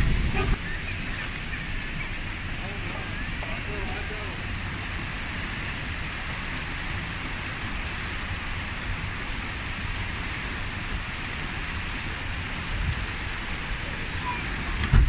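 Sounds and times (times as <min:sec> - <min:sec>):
rush of falling water: 0:00.0 - 0:15.0.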